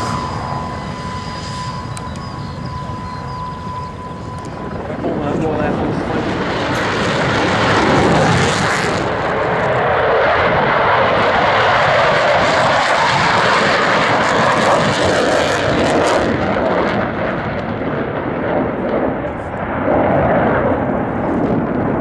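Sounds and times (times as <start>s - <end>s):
aircraft engine running: 0.0s - 22.0s.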